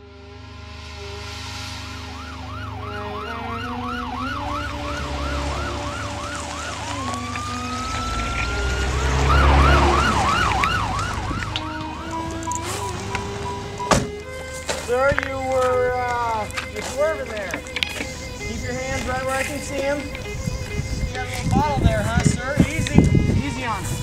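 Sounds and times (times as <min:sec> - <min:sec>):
low rumble: 0:00.0 - 0:24.0
police siren yelping and wailing: 0:02.0 - 0:24.0.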